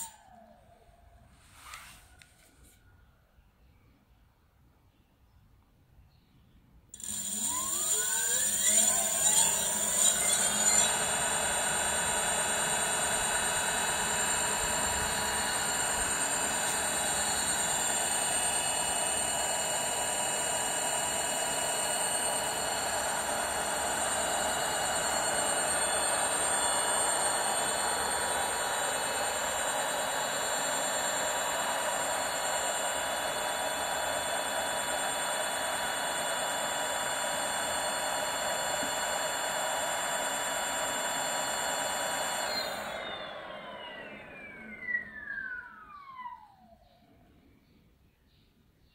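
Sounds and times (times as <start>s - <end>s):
electric hub motor whirring: 0.0s - 0.6s, 7.0s - 47.0s.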